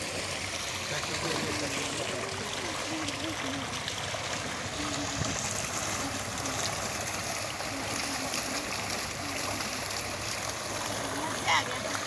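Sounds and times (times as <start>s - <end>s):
water gushing from pipe into tank: 0.0s - 12.0s.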